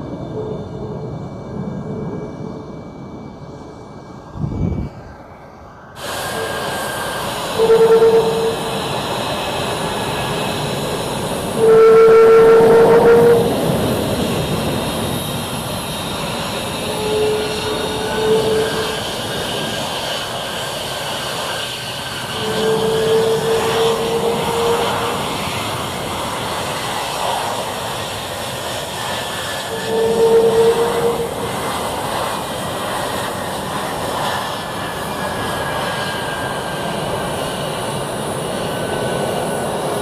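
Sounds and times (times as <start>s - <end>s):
jet engines rumbling and whining: 0.0s - 40.0s.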